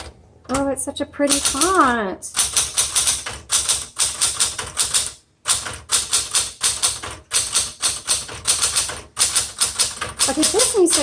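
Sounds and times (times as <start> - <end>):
typewriter key strikes: 1.3 - 11.0.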